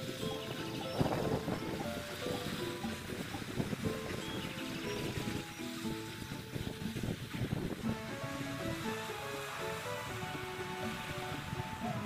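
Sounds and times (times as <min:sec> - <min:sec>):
background music with held notes: 0:00.0 - 0:12.0
surf rushing: 0:00.0 - 0:12.0
wind: 0:00.0 - 0:12.0.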